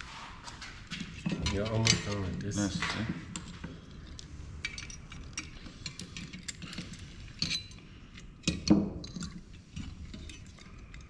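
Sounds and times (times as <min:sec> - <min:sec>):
small parts and tools clinking: 0:00.8 - 0:11.0.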